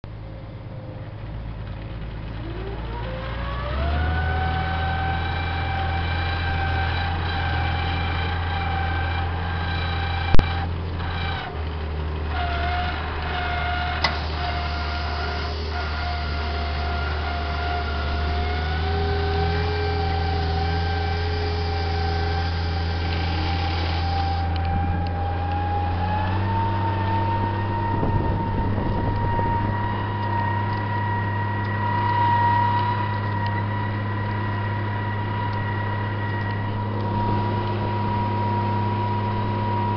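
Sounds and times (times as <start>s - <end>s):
steady whine: 0.0s - 39.9s
tractor diesel engine under load: 0.0s - 39.9s.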